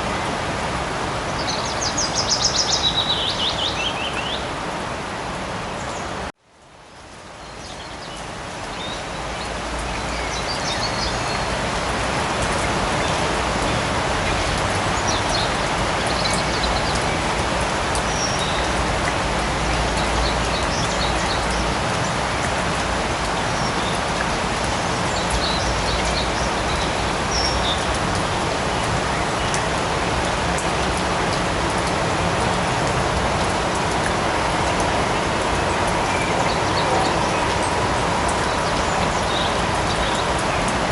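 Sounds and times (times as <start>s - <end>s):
light rain falling: 0.0s - 40.9s.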